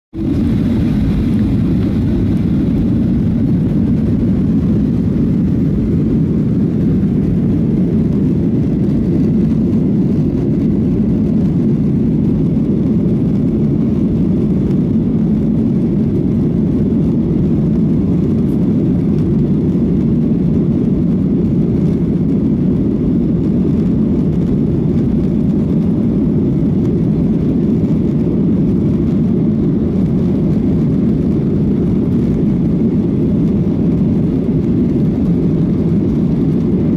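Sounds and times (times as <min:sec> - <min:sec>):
jet engines rumbling: 0:00.1 - 0:36.9.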